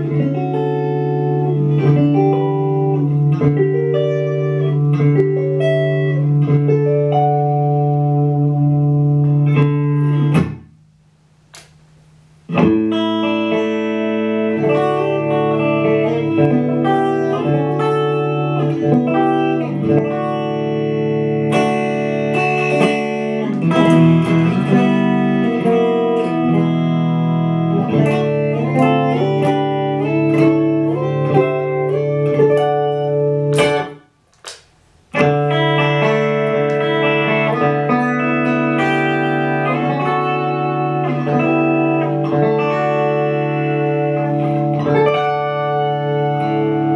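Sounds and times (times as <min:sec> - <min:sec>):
electric guitar: 0:00.0 - 0:10.8, 0:11.4 - 0:46.9.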